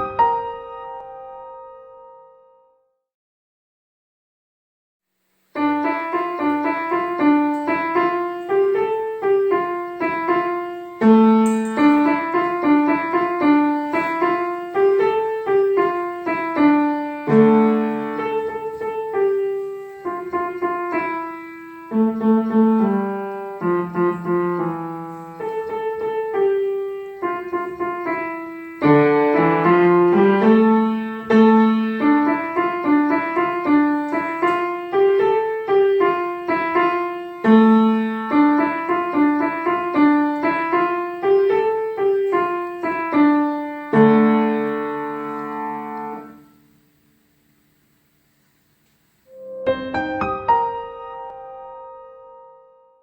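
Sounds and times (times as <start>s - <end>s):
solo piano melody: 0.0s - 2.9s, 5.4s - 47.6s, 48.8s - 53.0s.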